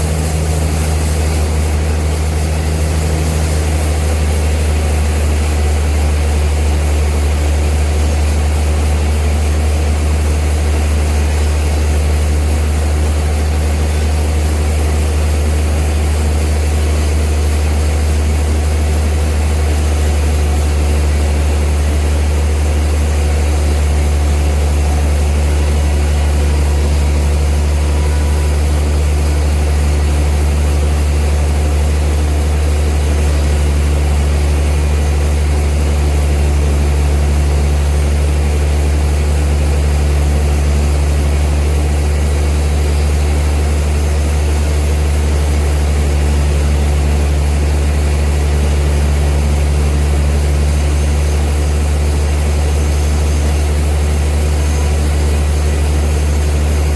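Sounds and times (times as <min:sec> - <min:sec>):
sawmill machinery humming: 0:00.0 - 0:56.9.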